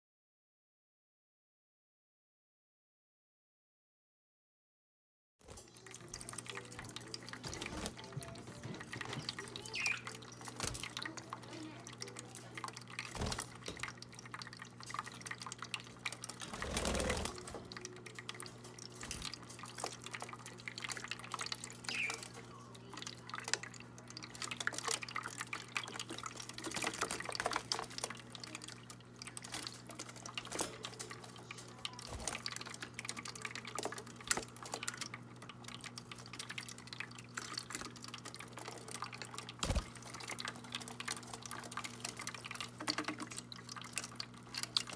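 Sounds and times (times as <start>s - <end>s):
water trickling and dripping: 5.4s - 44.9s
low pump hum: 5.5s - 44.9s.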